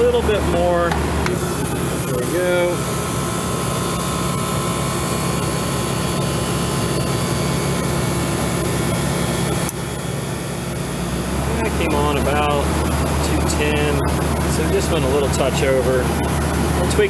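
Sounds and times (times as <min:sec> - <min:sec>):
air conditioning unit running: 0:00.0 - 0:17.0
thin steady whine: 0:00.0 - 0:17.0.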